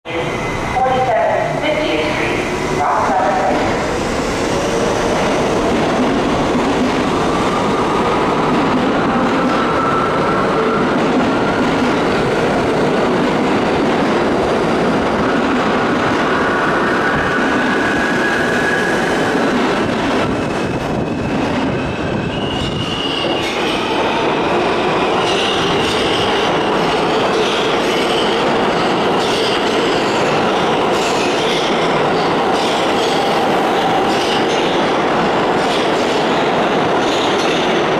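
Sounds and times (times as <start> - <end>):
subway train rumble: 0.0 - 37.9
train wheels clickety-clack: 5.0 - 37.9.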